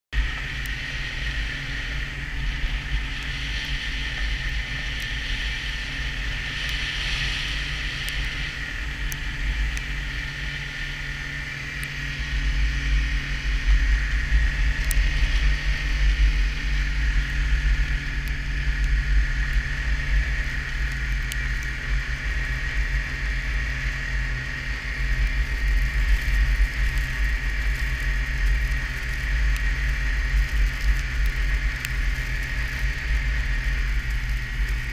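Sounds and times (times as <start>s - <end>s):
snowmobile engine running: 0.1s - 34.9s.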